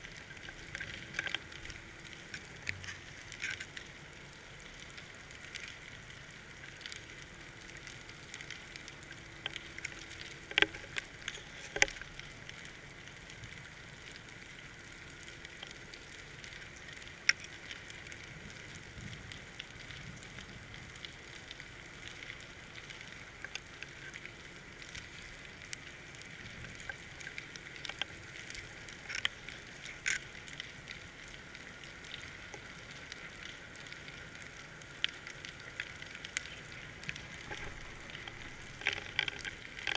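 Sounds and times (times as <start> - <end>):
crackling clicks: 0.0 - 39.9.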